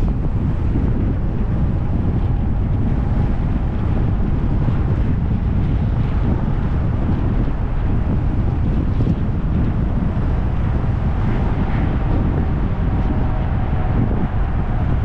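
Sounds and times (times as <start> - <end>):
car road noise: 0.0 - 15.0
wind buffeting microphone: 0.0 - 15.0.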